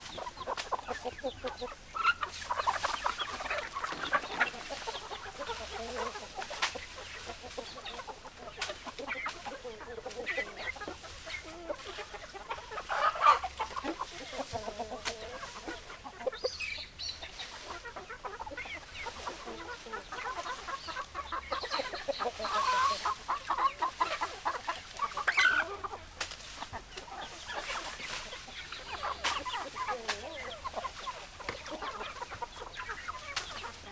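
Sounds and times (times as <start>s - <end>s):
hens clucking: 0.0s - 33.9s.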